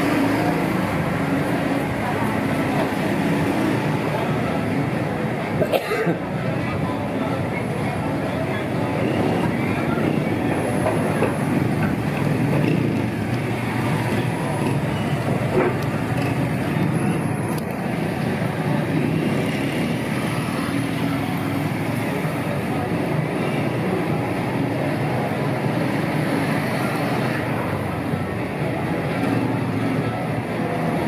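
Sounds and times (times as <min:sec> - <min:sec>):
cars and motorbikes driving past: 0:00.0 - 0:31.0.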